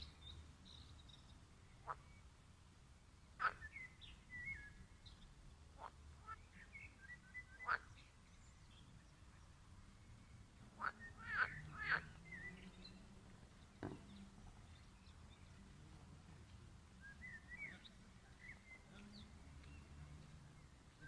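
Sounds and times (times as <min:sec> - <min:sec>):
birds twittering: 0:03.4 - 0:15.8, 0:16.4 - 0:21.0.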